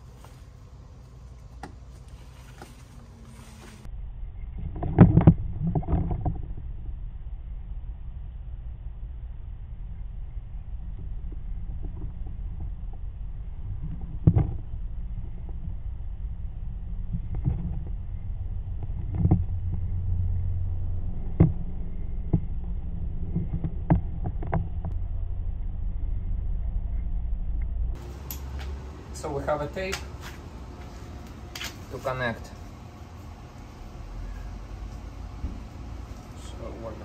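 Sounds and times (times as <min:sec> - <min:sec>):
low rumbling handling noise: 0:00.0 - 0:37.0.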